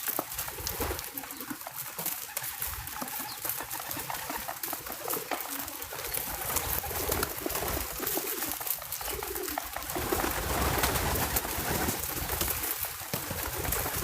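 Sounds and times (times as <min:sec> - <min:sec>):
dove cooing: 0:00.3 - 0:14.0.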